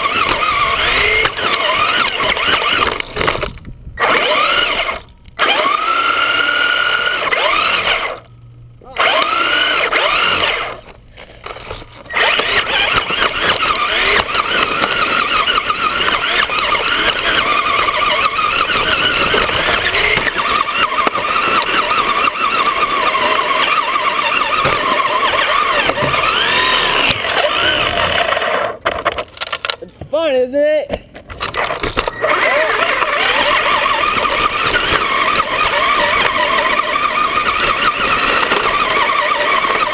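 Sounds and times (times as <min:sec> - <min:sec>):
rc car motor whining: 0:00.0 - 0:28.9, 0:31.4 - 0:39.9.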